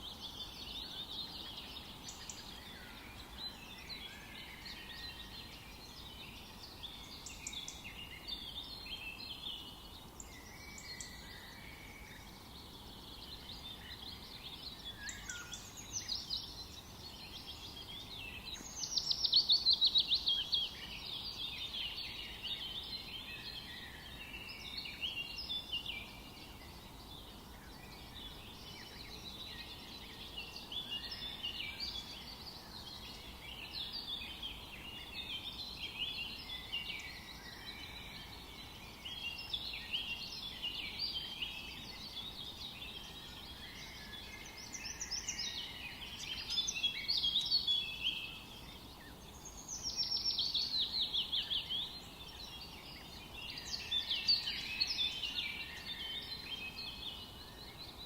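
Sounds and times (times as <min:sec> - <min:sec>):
faint background hiss: 0:00.0 - 0:58.0
songbirds singing: 0:00.0 - 0:58.0.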